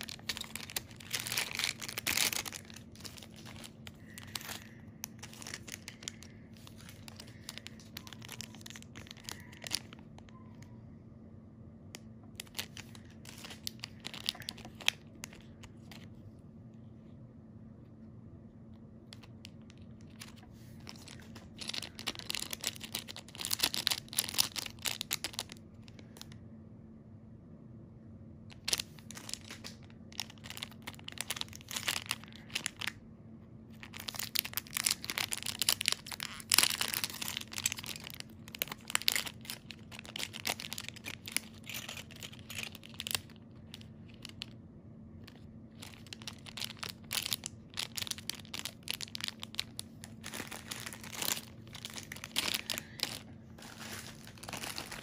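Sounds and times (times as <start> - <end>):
plastic bags crinkling and tearing: 0.0 - 10.3, 12.3 - 16.0, 19.2 - 26.3, 28.5 - 33.0, 33.7 - 44.5, 45.3 - 55.0.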